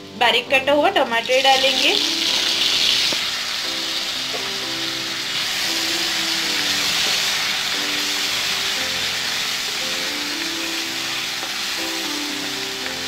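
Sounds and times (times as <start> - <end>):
soft background music: 0.0 - 13.0
vegetables sizzling in hot oil: 0.7 - 13.0.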